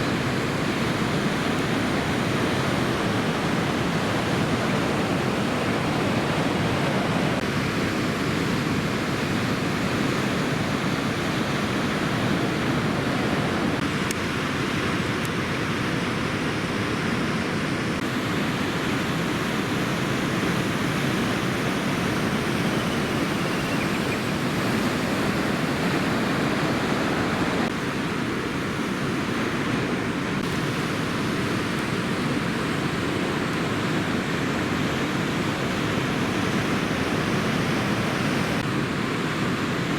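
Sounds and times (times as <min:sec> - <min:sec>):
heavy surf roaring: 0:00.0 - 0:39.9.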